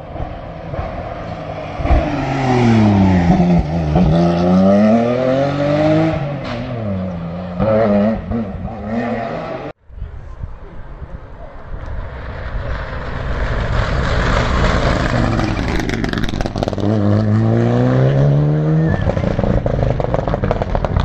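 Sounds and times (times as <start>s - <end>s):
rally car engine revving: 0.0s - 9.7s, 12.2s - 21.0s.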